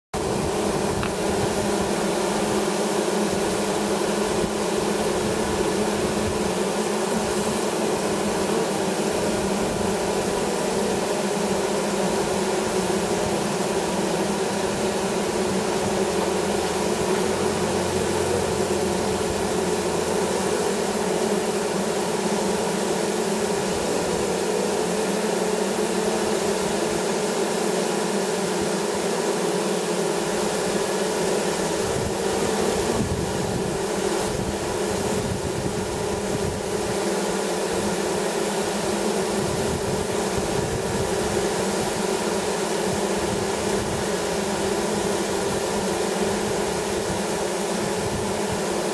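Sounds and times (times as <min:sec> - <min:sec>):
bees buzzing: 0:00.2 - 0:48.9.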